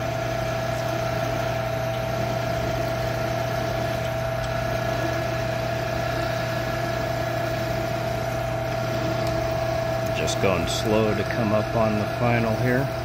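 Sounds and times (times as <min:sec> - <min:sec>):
drill bit cutting metal: 0:00.0 - 0:13.0
metal lathe whining: 0:00.0 - 0:13.0.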